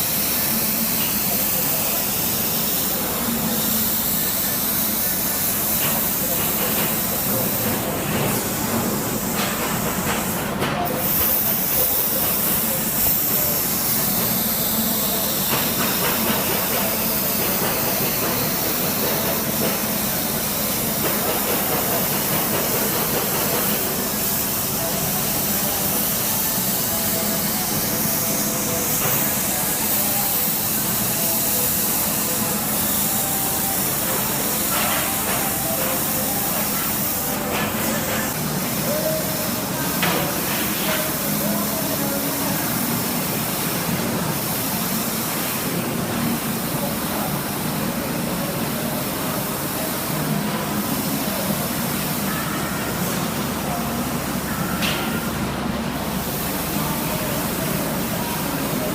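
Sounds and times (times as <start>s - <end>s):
plasma torch hissing: 0.0s - 55.3s, 56.0s - 58.9s.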